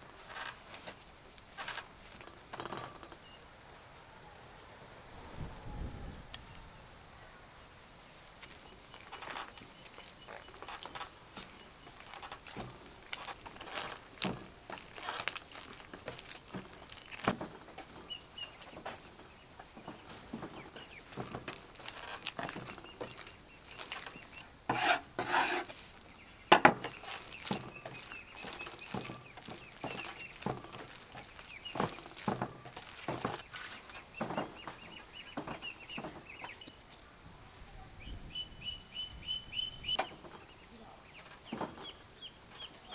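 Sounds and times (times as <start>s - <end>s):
faint birds chirping: 0.0s - 42.9s.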